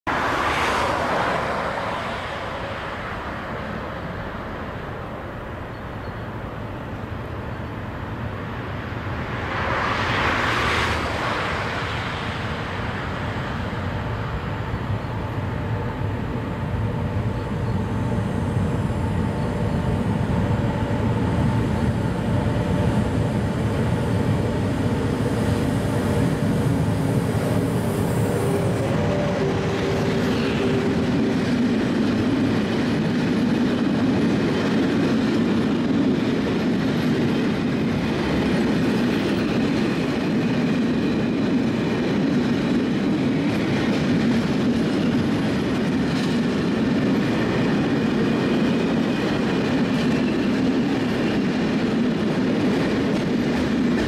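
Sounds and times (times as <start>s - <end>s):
freight train rumble: 0.0s - 54.0s
locomotive hum: 0.1s - 54.0s
rush of noise: 6.8s - 54.0s.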